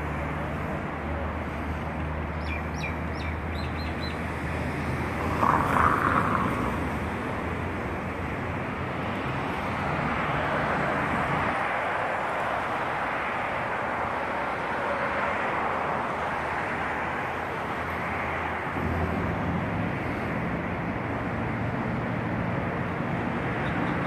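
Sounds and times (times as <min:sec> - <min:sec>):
distant traffic hiss: 0:00.0 - 0:24.0.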